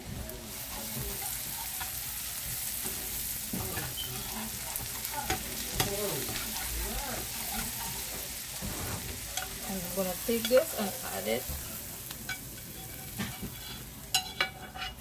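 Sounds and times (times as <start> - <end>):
sauce sizzling in a frying pan: 0.0 - 15.0
metal spatula scraping a pan: 0.5 - 11.4, 12.2 - 15.0.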